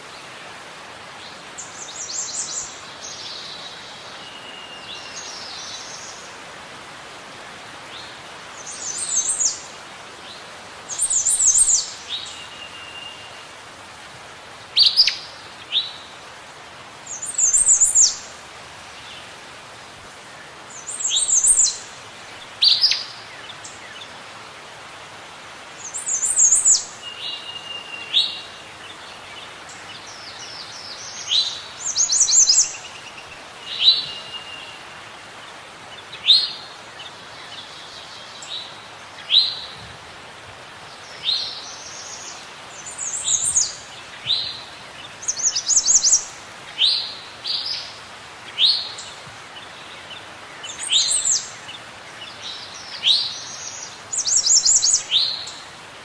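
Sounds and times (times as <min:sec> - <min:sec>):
songbirds chirping and twittering: 0:00.0 - 0:56.0
steady soft hiss: 0:00.0 - 0:56.0.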